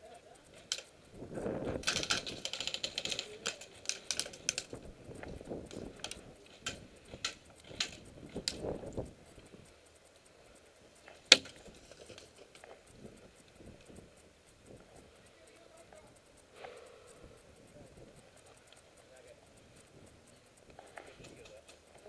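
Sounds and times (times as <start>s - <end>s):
rustling: 0.0s - 22.0s
sharp clicks: 0.0s - 22.0s.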